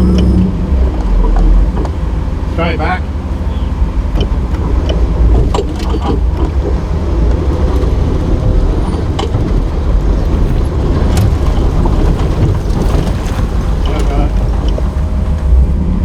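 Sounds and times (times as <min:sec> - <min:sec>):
sharp knocks and clunks: 0:00.0 - 0:15.8
truck engine low rumble: 0:00.0 - 0:16.0.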